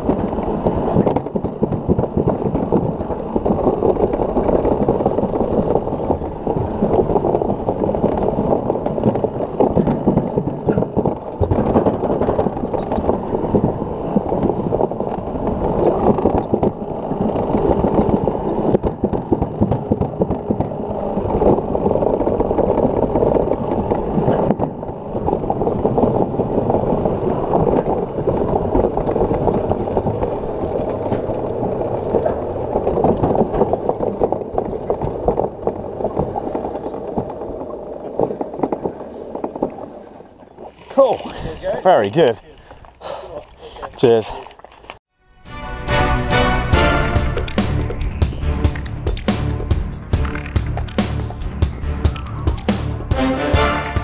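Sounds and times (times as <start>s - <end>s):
cart wheels rattling on metal track: 0.0s - 43.0s, 46.4s - 54.0s.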